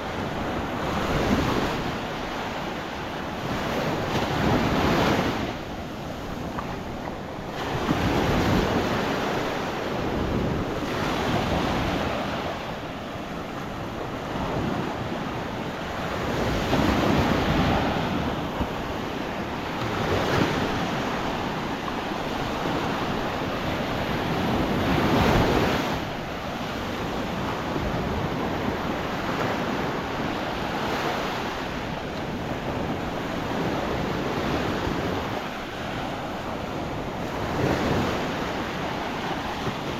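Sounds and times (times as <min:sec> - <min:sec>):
small waves breaking on shore: 0:00.0 - 0:39.9
wind on microphone: 0:00.0 - 0:39.9.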